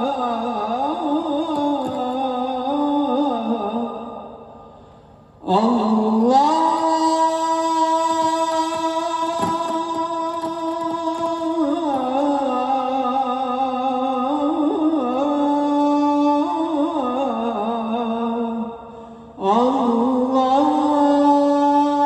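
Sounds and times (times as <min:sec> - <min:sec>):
man chanting over loudspeakers: 0:00.0 - 0:04.8, 0:05.4 - 0:22.0.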